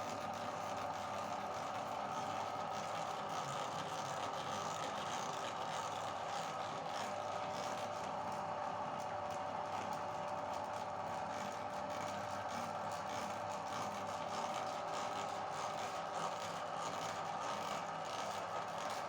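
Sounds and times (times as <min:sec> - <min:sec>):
meat grinder motor whining: 0:00.0 - 0:19.0.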